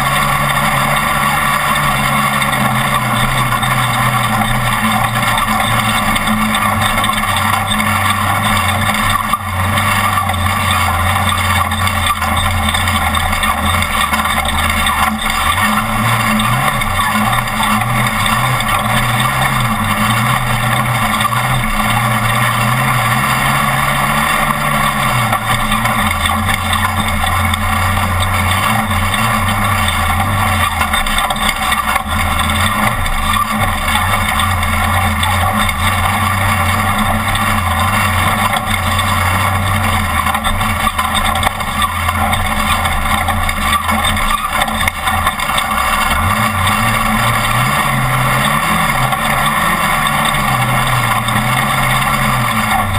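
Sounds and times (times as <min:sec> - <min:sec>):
truck engine running hard: 0:00.0 - 0:52.9.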